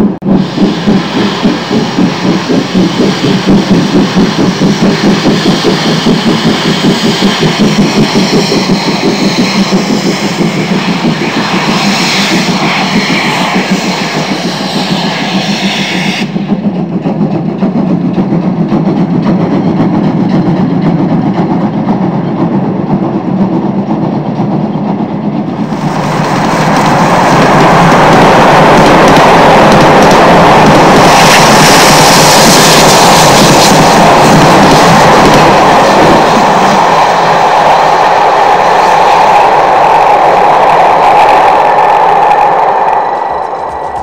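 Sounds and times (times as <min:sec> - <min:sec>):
steam freight train running: 0:00.0 - 0:44.0.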